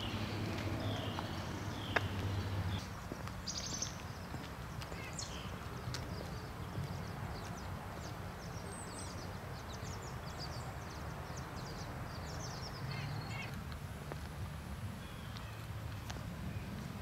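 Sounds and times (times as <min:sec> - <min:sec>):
small birds chirping: 0:00.0 - 0:13.6, 0:14.8 - 0:17.0.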